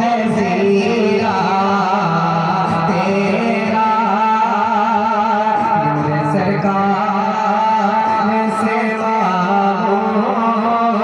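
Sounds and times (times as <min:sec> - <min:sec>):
man singing long notes: 0:00.0 - 0:11.0.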